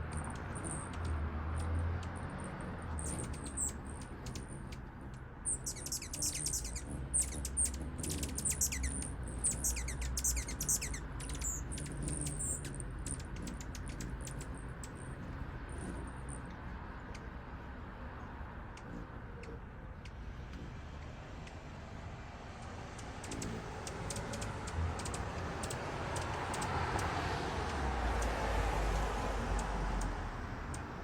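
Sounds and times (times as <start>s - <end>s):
hummingbirds chirping: 0.0s - 31.0s.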